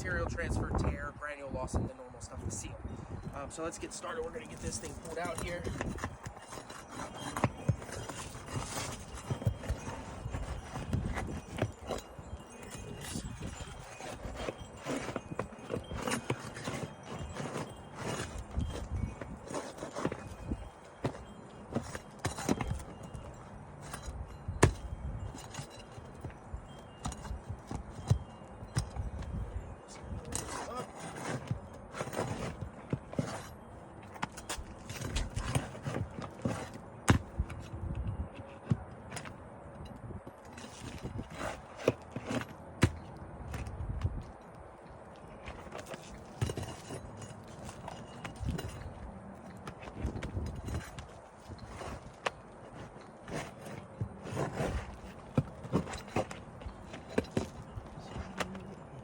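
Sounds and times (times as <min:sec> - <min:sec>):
shingle scraping and rustling: 0:00.0 - 0:59.0.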